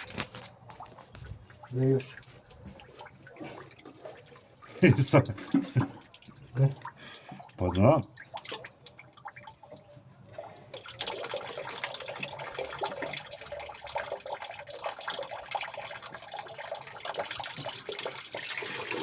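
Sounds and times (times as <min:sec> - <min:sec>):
water drips and splashes: 0:00.0 - 0:19.0
water running and spattering: 0:00.0 - 0:19.0.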